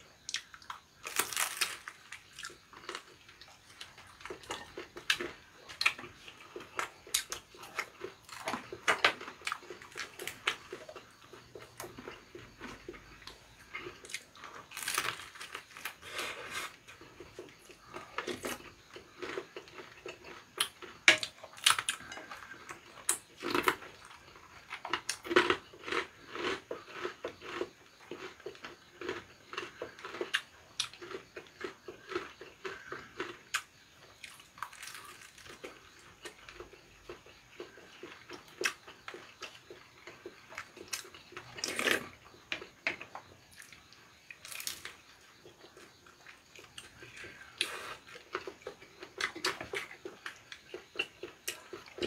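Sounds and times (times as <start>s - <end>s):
chewing crunchy fried food: 0.1s - 52.0s.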